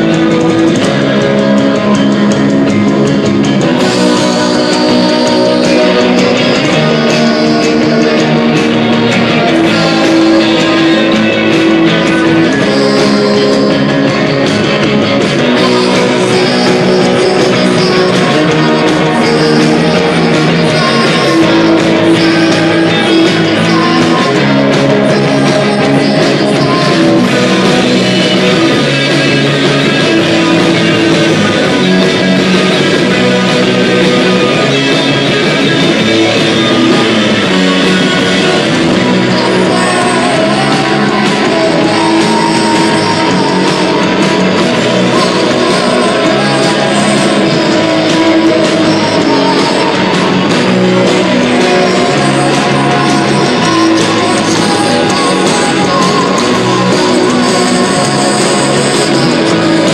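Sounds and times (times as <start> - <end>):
drum kit: 0.0 - 59.9
electric guitars: 0.0 - 59.9
person singing: 0.0 - 59.9.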